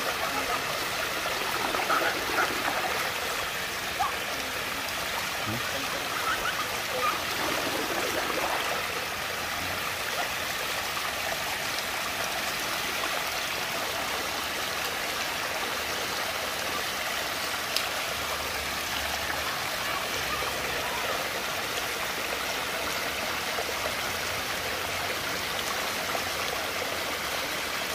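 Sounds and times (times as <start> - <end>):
water rushing and gurgling: 0.0 - 27.9.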